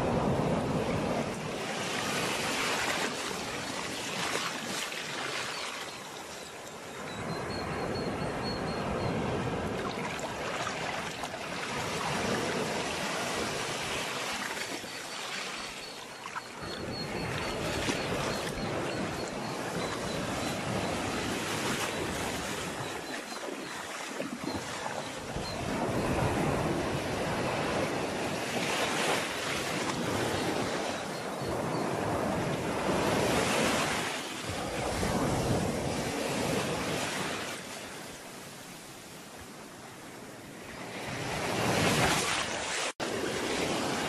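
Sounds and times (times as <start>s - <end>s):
sea waves washing onto shore: 0.0s - 6.9s, 8.8s - 44.0s.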